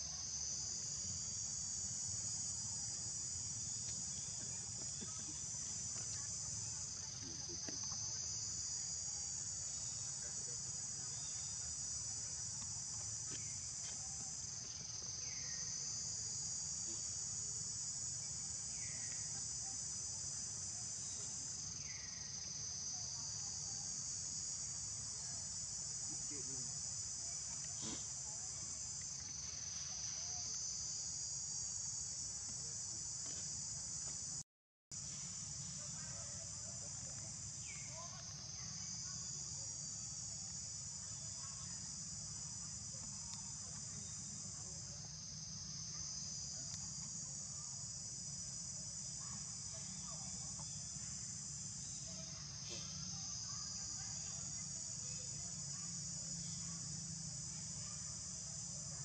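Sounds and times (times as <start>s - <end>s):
shrill insect chorus: 0.0s - 34.4s, 35.0s - 59.0s.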